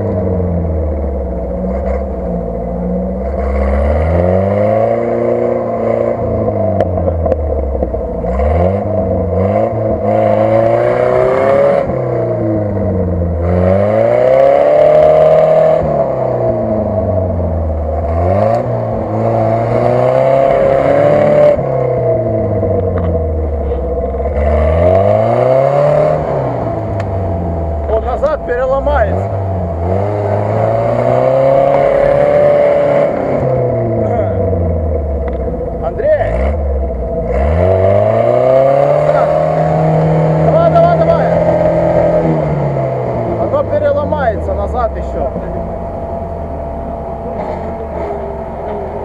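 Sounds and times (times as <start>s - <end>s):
off-road vehicle engine revving: 0.0s - 49.0s.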